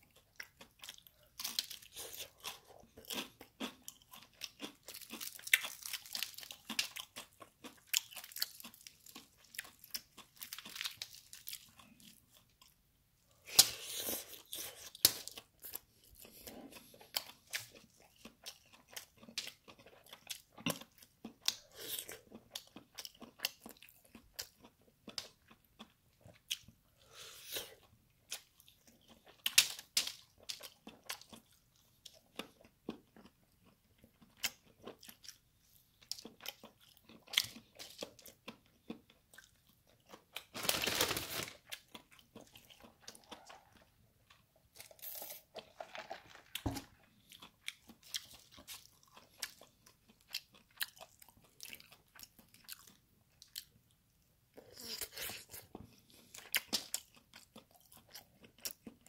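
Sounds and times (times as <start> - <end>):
chewing crispy fried chicken: 0.0 - 59.0.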